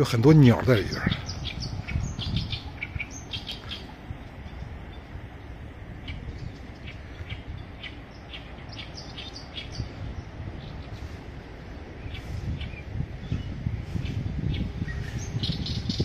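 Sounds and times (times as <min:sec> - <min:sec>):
birds chirping: 0:00.0 - 0:16.0
wind rumble on microphone: 0:00.0 - 0:16.0.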